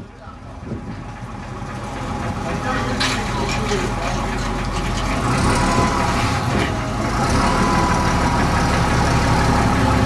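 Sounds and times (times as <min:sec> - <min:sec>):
bus diesel engine running: 0:00.0 - 0:10.0.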